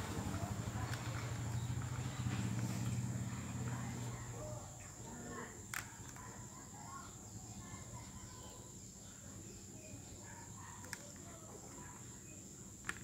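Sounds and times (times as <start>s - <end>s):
faint bird chirps: 0.1s - 12.7s.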